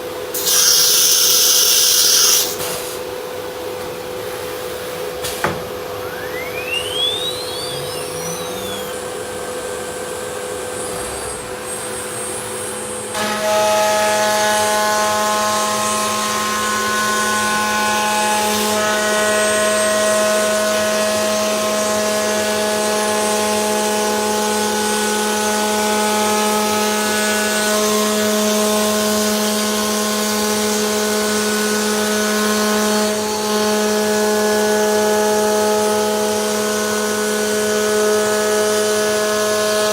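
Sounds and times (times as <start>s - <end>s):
cnc router spindle whine: 0.0s - 2.6s, 5.7s - 39.9s
steady machine noise: 5.8s - 39.9s.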